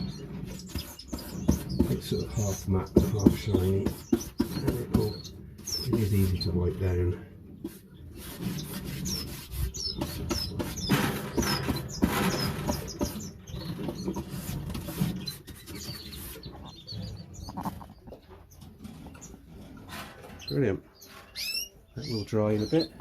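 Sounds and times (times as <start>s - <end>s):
rustling and scraping: 0.0s - 23.0s
small birds chirping: 0.0s - 23.0s.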